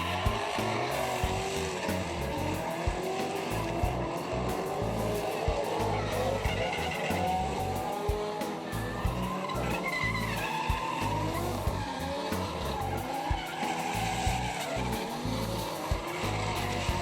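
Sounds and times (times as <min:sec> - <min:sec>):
car engines revving: 0:00.0 - 0:17.0
music with thumping beat: 0:00.0 - 0:17.0
tyres squealing and skidding: 0:00.0 - 0:17.0.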